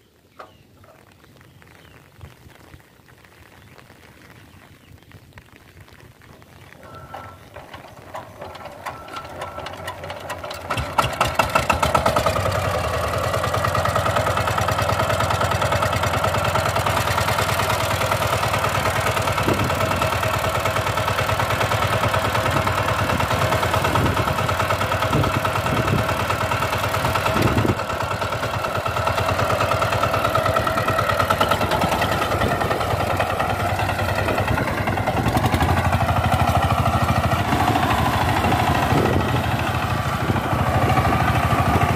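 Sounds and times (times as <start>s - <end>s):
diesel engine cranking and chugging: 6.8s - 41.9s.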